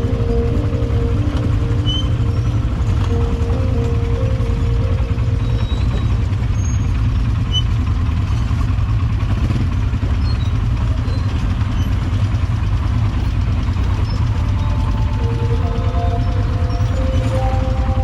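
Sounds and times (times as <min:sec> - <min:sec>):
quad bike engine rumbling: 0:00.0 - 0:18.0.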